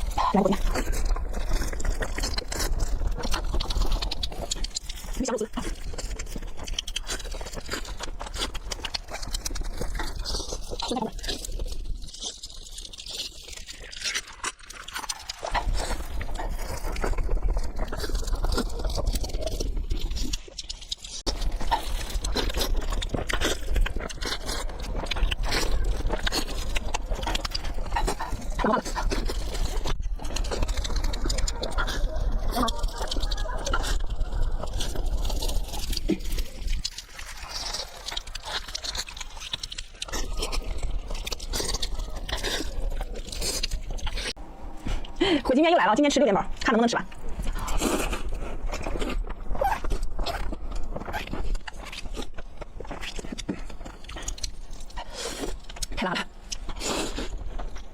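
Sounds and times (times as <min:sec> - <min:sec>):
person chewing food: 0:00.0 - 0:45.6, 0:46.5 - 0:57.9.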